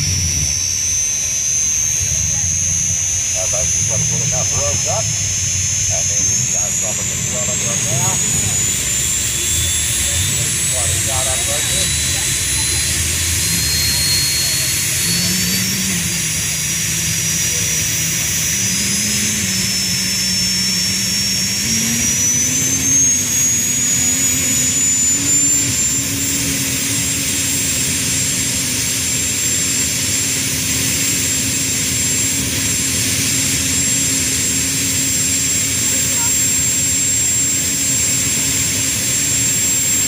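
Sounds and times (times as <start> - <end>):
jet engine roar and whine: 0.0 - 40.0.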